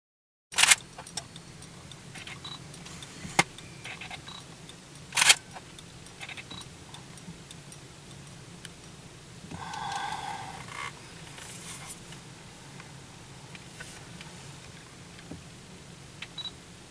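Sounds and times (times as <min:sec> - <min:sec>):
low steady hum: 0:00.6 - 0:16.9.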